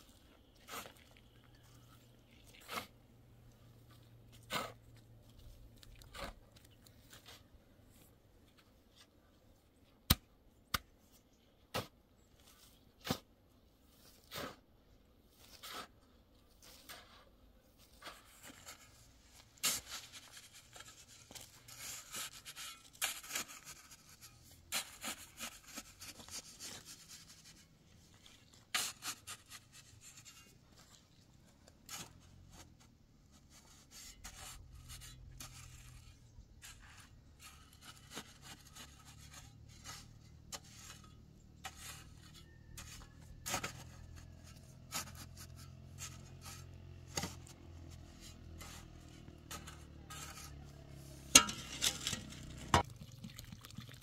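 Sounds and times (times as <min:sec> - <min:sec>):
shovel scraping sand and gravel: 0:00.0 - 0:08.1, 0:11.7 - 0:52.9.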